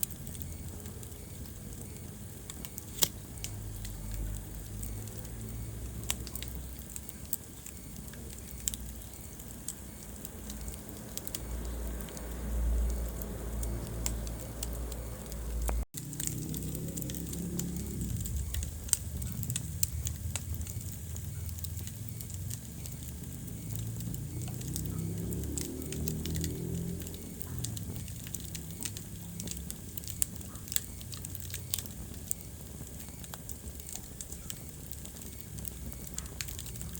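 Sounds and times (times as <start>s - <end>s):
low rumble of burning logs: 0.0s - 36.9s
wood fire crackling and popping: 0.0s - 36.9s.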